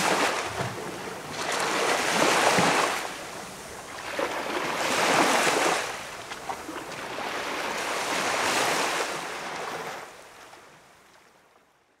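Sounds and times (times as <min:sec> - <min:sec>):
small waves washing onto beach: 0:00.0 - 0:11.6.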